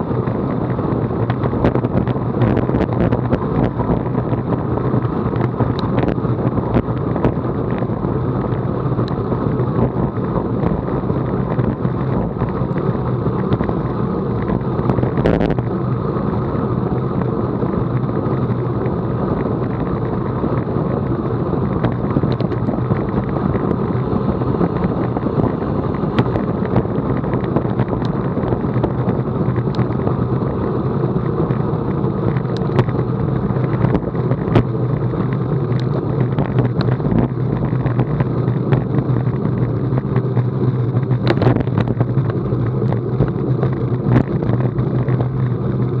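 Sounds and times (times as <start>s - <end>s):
tyre noise on asphalt: 0.0s - 46.0s
wind on microphone: 0.0s - 46.0s.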